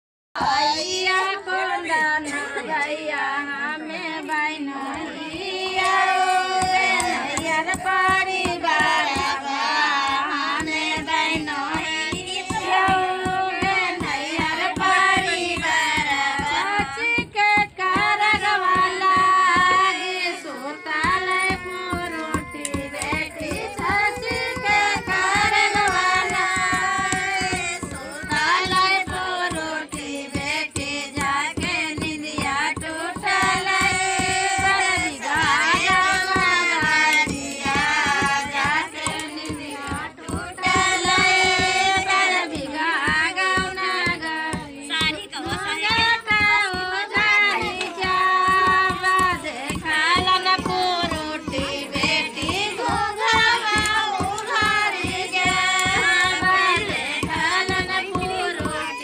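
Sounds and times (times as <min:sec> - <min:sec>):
women singing folk song: 0:00.4 - 0:59.0.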